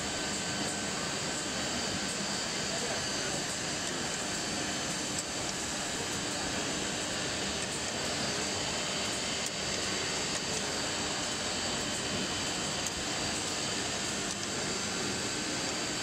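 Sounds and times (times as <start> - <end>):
wood router running: 1.7 - 16.0.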